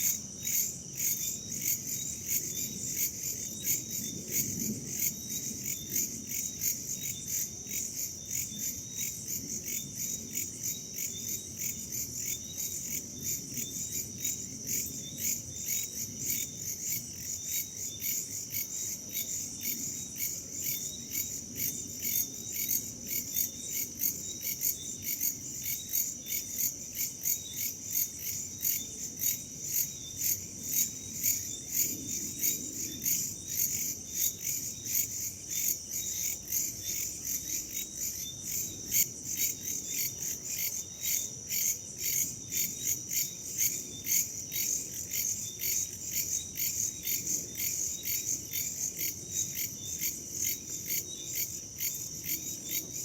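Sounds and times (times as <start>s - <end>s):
crickets and insects chirping: 0.0s - 53.0s.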